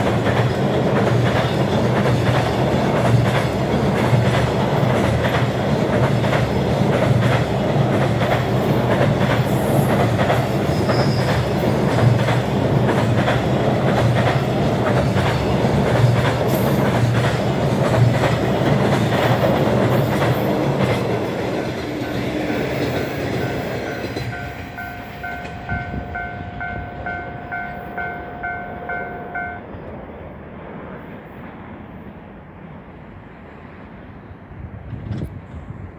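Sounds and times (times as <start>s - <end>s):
train wheels clacking over rail joints: 0.0s - 29.0s.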